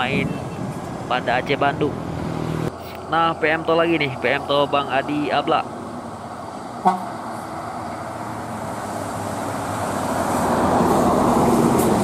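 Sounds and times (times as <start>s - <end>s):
coach diesel engine passing: 0.0s - 12.0s.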